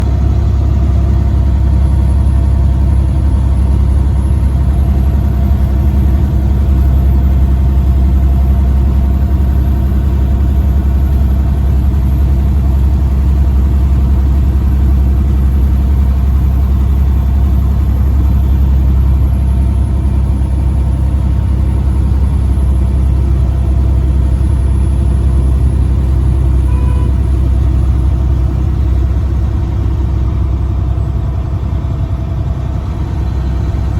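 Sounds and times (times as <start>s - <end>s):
truck engine and road noise: 0.0s - 33.9s.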